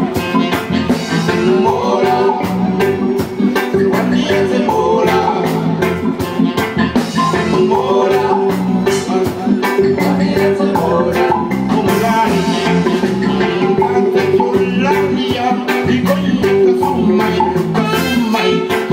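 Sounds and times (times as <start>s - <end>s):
electric guitar: 0.0s - 18.9s
steady drum beat: 0.0s - 18.9s
man singing into microphone: 1.2s - 3.0s, 3.8s - 6.0s, 7.2s - 18.9s.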